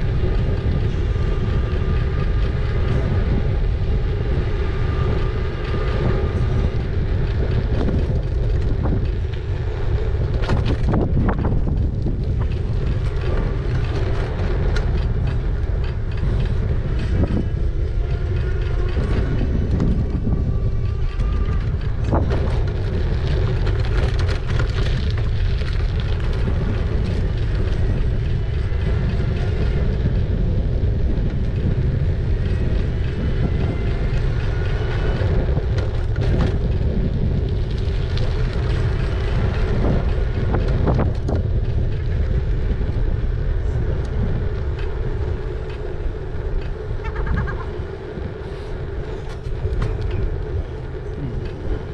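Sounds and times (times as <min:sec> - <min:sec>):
road rumble: 0:00.0 - 0:51.9
wind buffeting microphone: 0:00.0 - 0:51.9.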